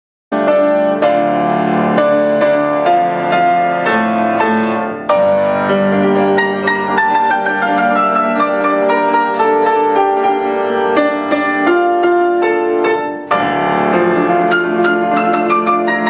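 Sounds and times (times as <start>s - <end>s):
solo piano music: 0.3s - 16.0s.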